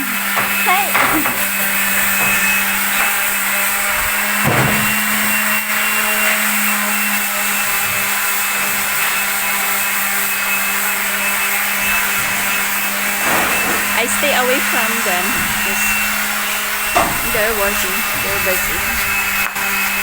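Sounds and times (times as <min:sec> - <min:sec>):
power tool motor humming: 0:00.0 - 0:20.0.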